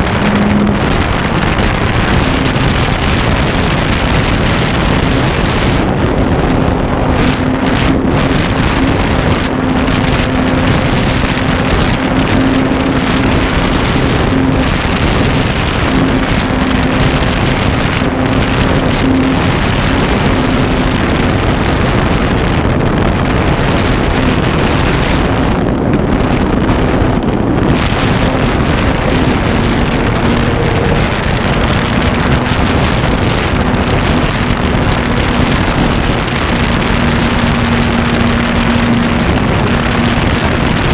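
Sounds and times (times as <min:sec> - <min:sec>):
model airplane motor humming: 0:00.0 - 0:40.9
wind rushing over microphone: 0:00.0 - 0:40.9.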